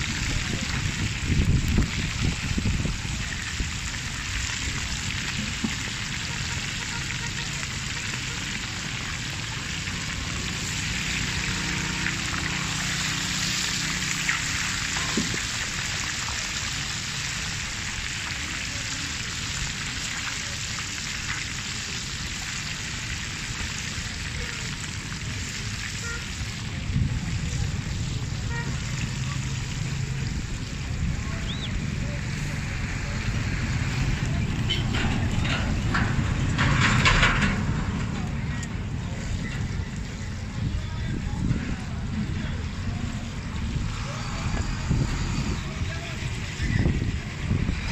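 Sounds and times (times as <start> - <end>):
fish sizzling in hot oil: 0.0 - 36.6, 42.0 - 47.9.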